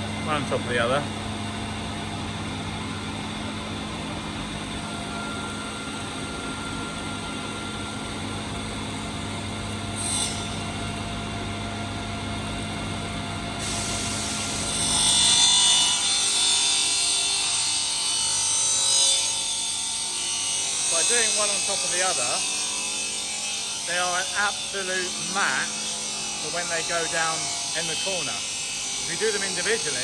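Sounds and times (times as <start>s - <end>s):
stone-cutting saw motor hum: 0.0s - 11.9s, 12.9s - 30.0s.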